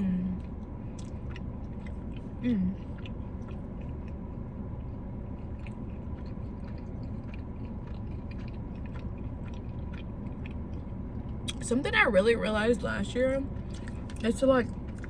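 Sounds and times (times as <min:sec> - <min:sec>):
steady low hum: 0:00.0 - 0:15.0
person chewing food: 0:00.4 - 0:11.6, 0:13.5 - 0:15.0.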